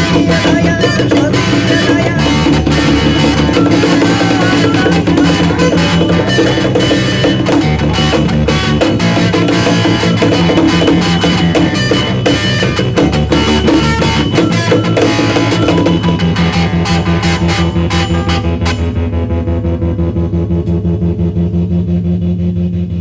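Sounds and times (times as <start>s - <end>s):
drum kit beat: 0.0s - 20.8s
rock band playing: 0.0s - 21.8s.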